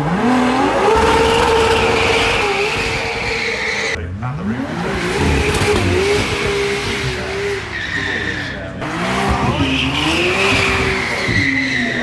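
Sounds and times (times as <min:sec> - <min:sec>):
car engine revving: 0:00.0 - 0:12.0
tyres squealing: 0:00.5 - 0:04.0, 0:05.0 - 0:12.0.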